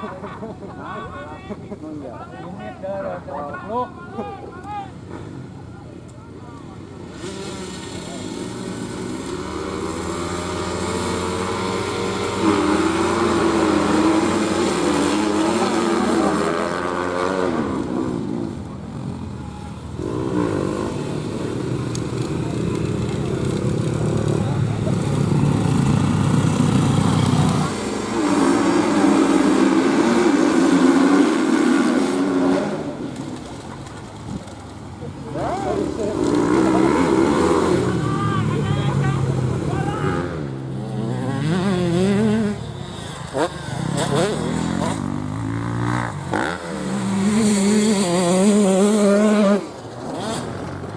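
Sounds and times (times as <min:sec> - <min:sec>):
motorcycle engine revving: 0:07.0 - 0:50.9.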